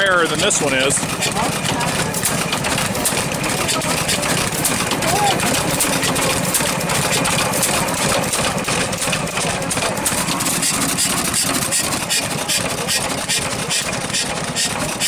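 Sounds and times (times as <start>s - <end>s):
engine clattering: 0.0s - 15.0s.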